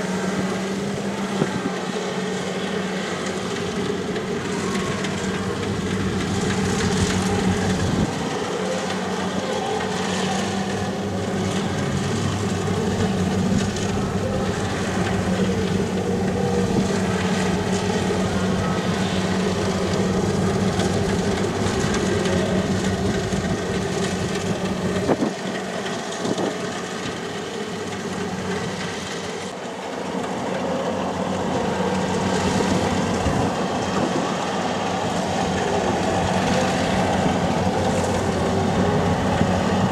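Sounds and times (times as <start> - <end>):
diesel engine humming: 0.0 - 39.9
machinery clattering and rattling: 0.0 - 39.9.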